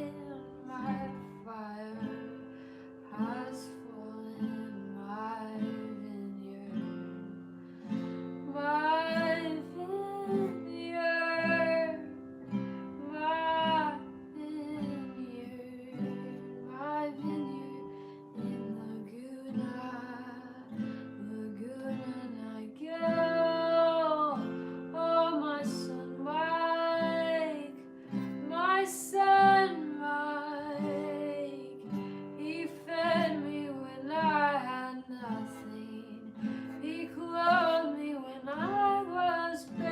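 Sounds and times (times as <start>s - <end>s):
strummed acoustic guitar: 0.0s - 39.9s
woman singing slow song: 0.0s - 39.9s.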